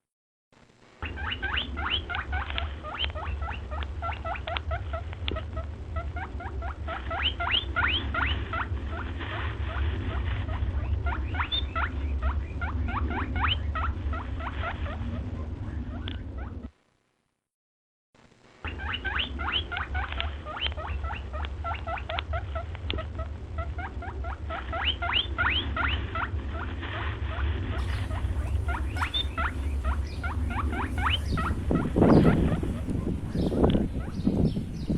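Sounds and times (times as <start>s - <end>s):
steady low hum: 0.6s - 17.1s, 18.2s - 34.9s
small animals squeaking: 1.0s - 16.7s, 18.6s - 34.9s.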